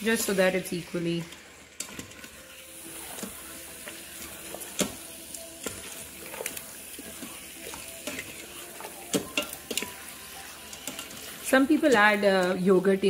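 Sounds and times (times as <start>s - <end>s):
meat sizzling: 0.0s - 13.0s
metal spoon scraping pot: 1.2s - 12.6s.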